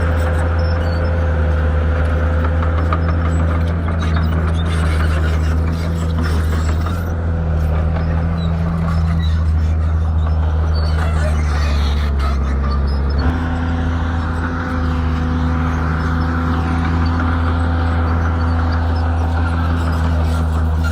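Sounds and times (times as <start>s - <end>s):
bulldozer diesel engine running: 0.0s - 20.9s.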